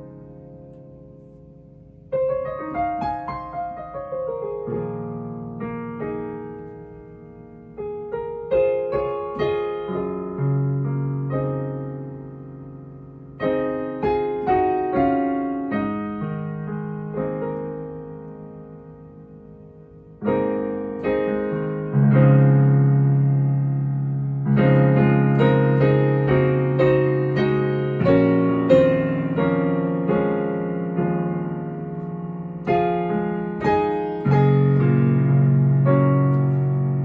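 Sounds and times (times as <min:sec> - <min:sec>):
solo piano improvisation: 0:00.0 - 0:37.0.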